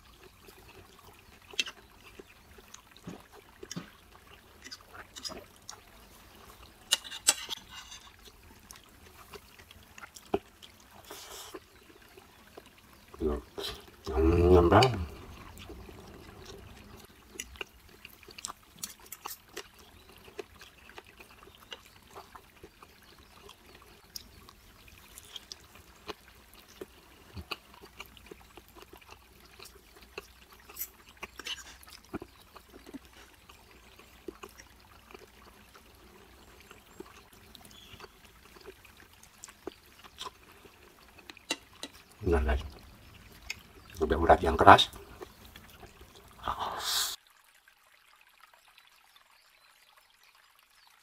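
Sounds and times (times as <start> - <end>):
wet chewing and smacking: 0.0 - 44.2, 44.8 - 46.4.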